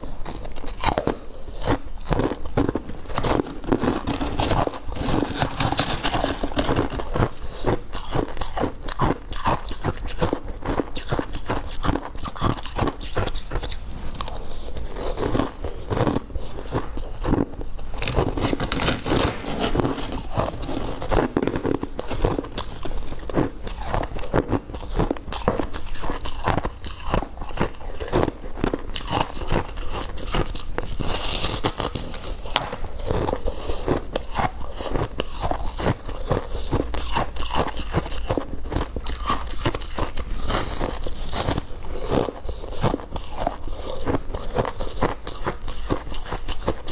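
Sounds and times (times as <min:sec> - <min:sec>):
ice being chewed: 0:00.0 - 0:46.9.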